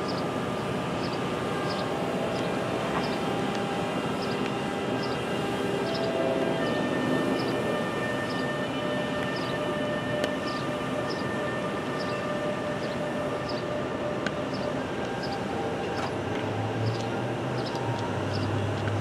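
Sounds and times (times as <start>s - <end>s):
electric locomotive whine: 0.0s - 19.0s
train rumbling: 0.0s - 19.0s.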